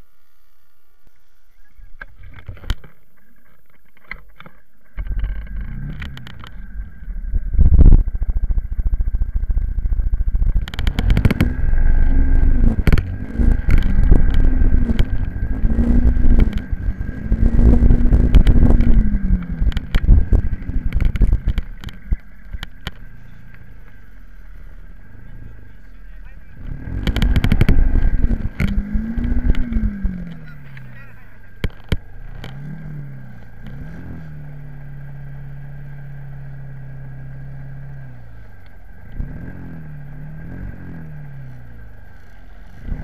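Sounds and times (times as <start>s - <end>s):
minibike engine revving: 4.0s - 43.0s.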